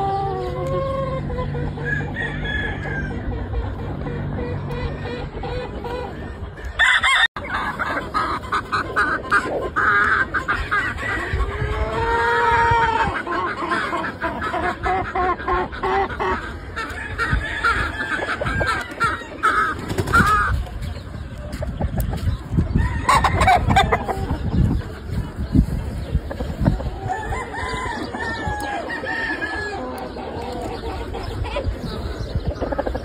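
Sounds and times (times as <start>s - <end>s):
roosters crowing and clucking: 0.0s - 33.0s.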